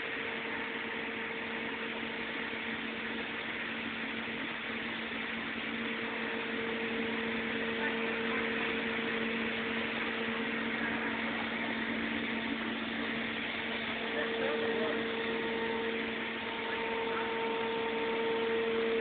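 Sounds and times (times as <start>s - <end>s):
air compressor humming: 0.0s - 19.0s.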